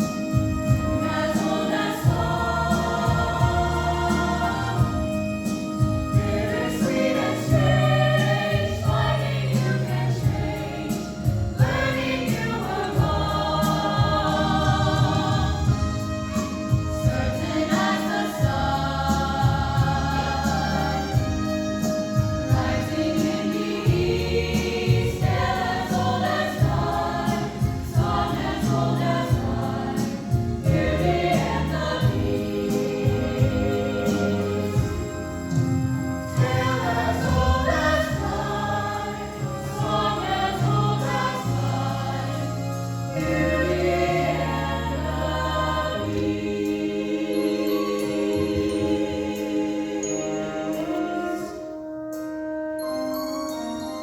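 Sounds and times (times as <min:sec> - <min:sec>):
choir singing in harmony: 0:00.0 - 0:54.0
instrumental accompaniment with beat: 0:00.0 - 0:54.0.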